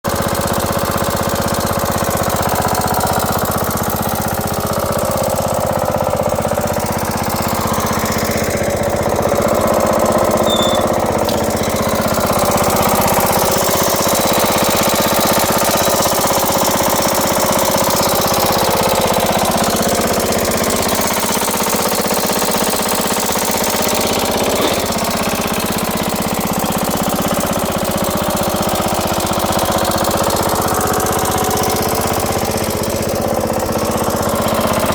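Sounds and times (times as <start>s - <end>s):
lawn tractor engine running: 0.0s - 34.9s.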